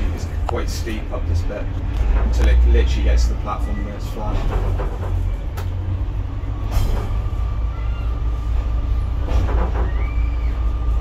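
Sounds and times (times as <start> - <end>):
train engine rumble: 0.0 - 11.0.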